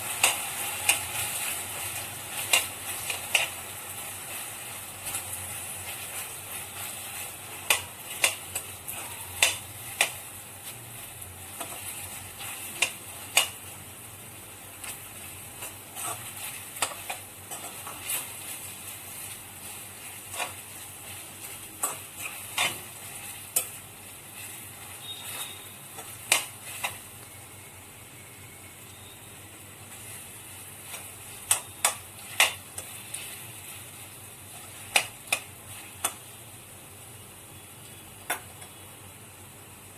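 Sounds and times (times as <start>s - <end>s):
spoon scraping against pan: 0.0s - 13.6s, 14.8s - 27.2s, 29.9s - 36.2s
food sizzling in a pan: 0.0s - 39.9s.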